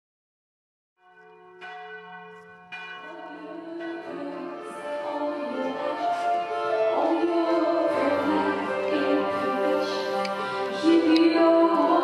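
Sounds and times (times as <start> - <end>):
church bells ringing: 1.0 - 12.0
music: 1.0 - 12.0.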